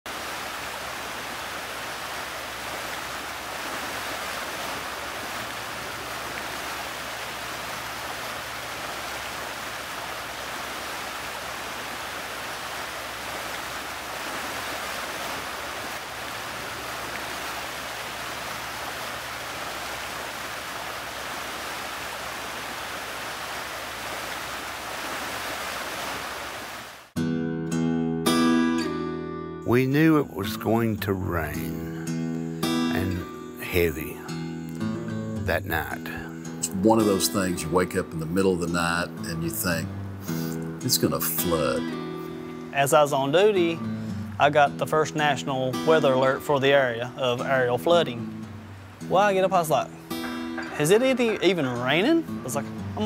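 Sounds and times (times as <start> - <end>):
floodwater rushing: 0.1 - 27.2, 35.1 - 53.0.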